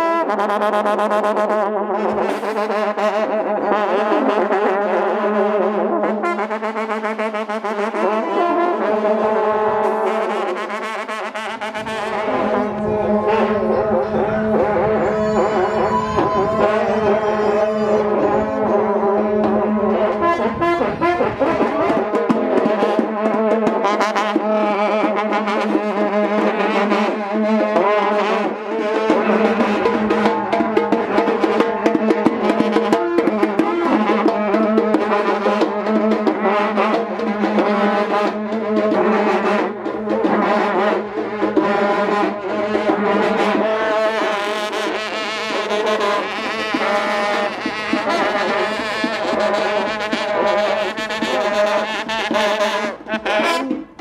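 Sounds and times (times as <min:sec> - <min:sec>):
long brass trumpets droning: 0:00.0 - 0:54.0
drumbeats: 0:09.8 - 0:54.0.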